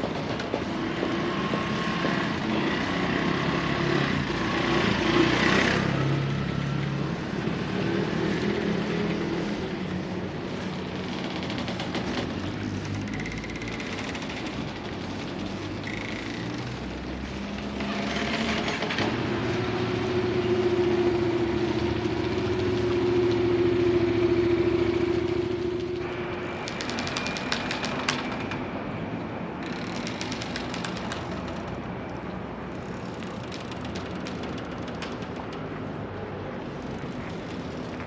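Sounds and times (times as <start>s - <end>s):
engine hum: 0.0s - 38.0s
outdoor background noise: 0.0s - 38.0s.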